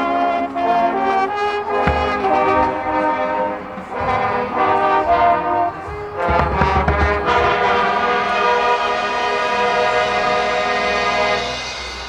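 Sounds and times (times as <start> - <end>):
brass band playing held chords: 0.0 - 12.0
percussion crashes: 1.6 - 12.0.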